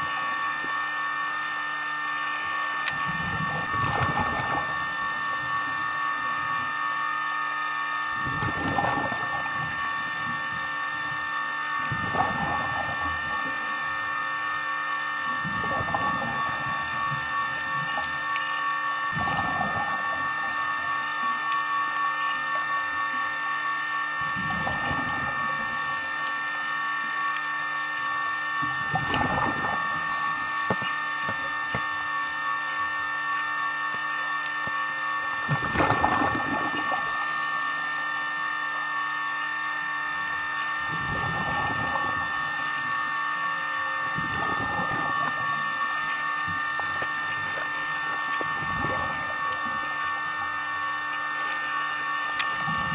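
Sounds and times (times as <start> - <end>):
camcorder mechanism whine: 0.0 - 52.9.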